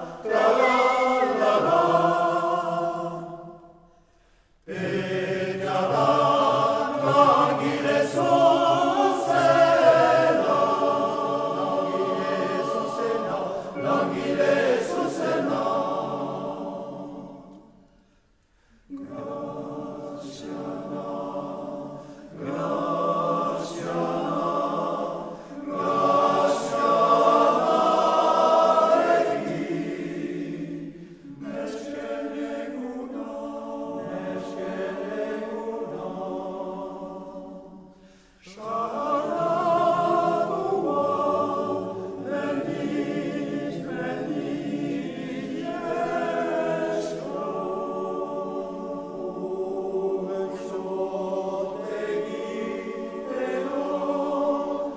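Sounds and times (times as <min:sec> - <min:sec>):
male choir singing a cappella: 0:00.0 - 0:18.0, 0:18.8 - 0:54.9.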